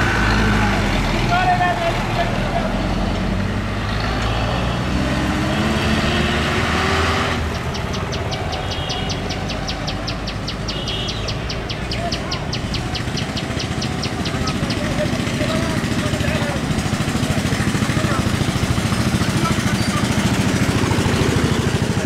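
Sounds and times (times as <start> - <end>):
motorcycle and truck engines: 0.0 - 22.0.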